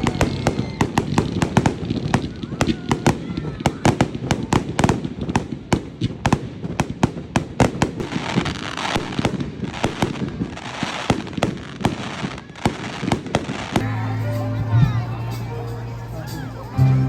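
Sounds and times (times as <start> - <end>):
fireworks bangs and pops: 0.0 - 13.9
hissing crackle of fireworks: 0.0 - 13.9.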